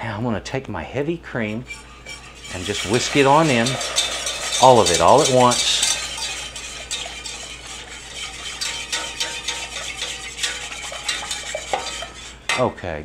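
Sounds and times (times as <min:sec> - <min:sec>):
whisk scraping a saucepan: 0:01.3 - 0:12.7.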